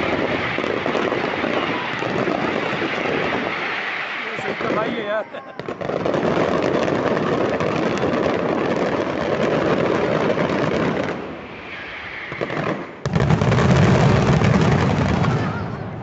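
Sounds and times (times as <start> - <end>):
fireworks crackling: 0.0 - 16.0
loud deep firework burst: 0.0 - 16.0.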